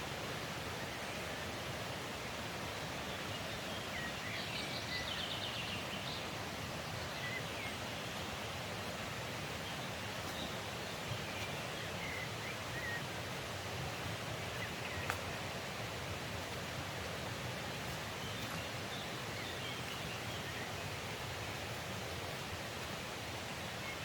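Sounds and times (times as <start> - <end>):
mountain stream rushing: 0.0 - 24.0
small birds chirping: 2.9 - 24.0.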